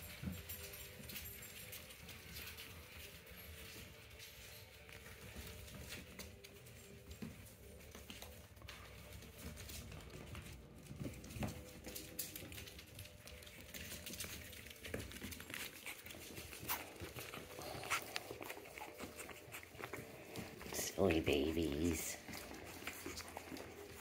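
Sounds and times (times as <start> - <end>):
puppy claws ticking on floor: 0.0 - 24.0.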